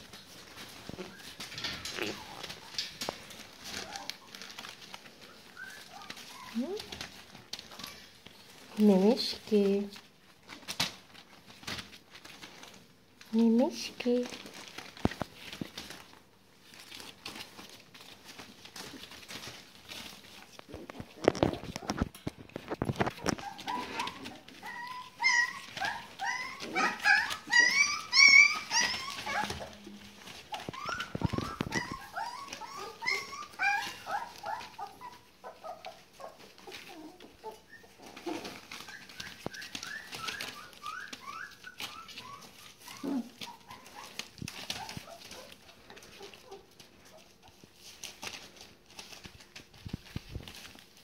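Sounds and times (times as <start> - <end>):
puppies whining and yelping: 0.0 - 8.8, 14.2 - 51.0
newspaper rustling: 0.0 - 51.0.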